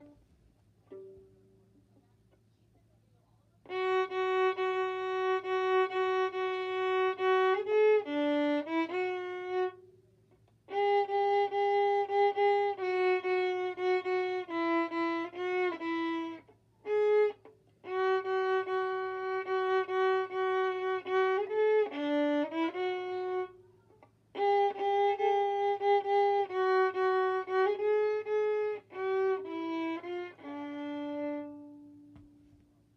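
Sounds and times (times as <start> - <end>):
solo violin tune: 0.0 - 1.6, 3.6 - 32.4.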